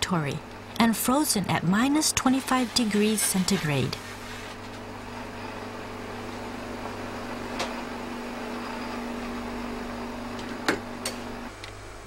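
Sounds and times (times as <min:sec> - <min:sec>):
freezer electric hum: 0:00.0 - 0:12.0.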